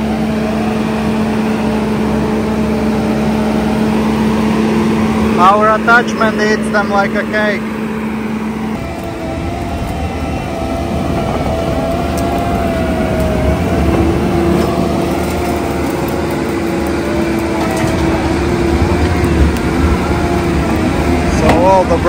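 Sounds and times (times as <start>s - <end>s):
grinder chewing stumps and roots: 0.0s - 22.0s
loader engine running: 0.0s - 22.0s
lower whine: 0.0s - 22.0s
steady whine: 0.0s - 22.0s.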